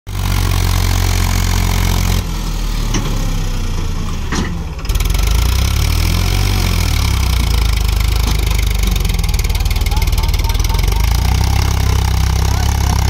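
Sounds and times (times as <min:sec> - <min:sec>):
tractor diesel engine under load: 0:00.1 - 0:13.0.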